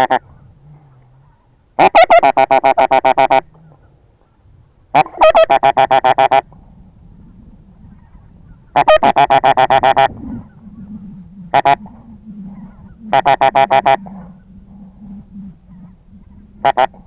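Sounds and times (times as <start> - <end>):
goose honking: 0.0 - 3.9, 4.9 - 6.6, 7.9 - 17.0.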